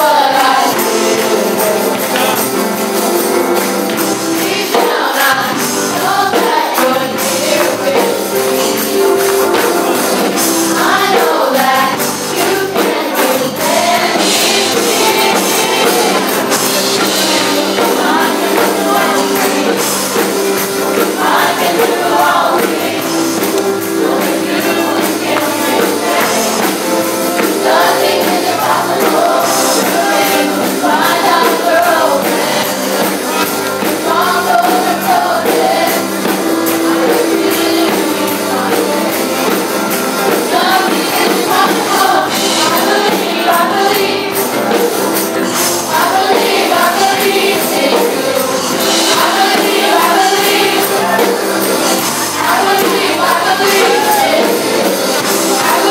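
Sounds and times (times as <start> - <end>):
drum kit playing: 0.0 - 55.9
keyboards and organ: 0.0 - 55.9
voices singing: 0.0 - 55.9.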